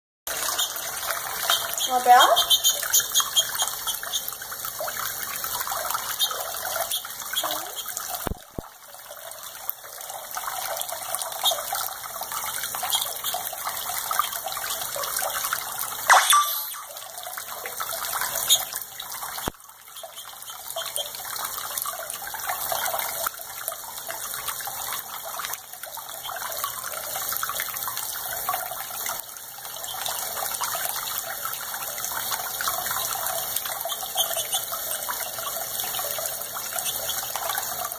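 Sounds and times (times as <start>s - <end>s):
faucet water splashing: 0.3s - 37.9s.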